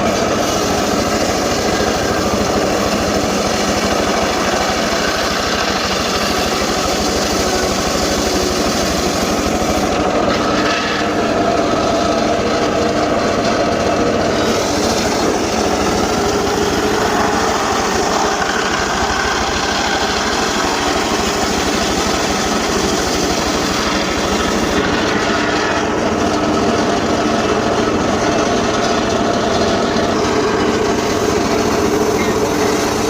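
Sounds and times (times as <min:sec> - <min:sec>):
petrol saw cutting wood: 0:00.0 - 0:33.0.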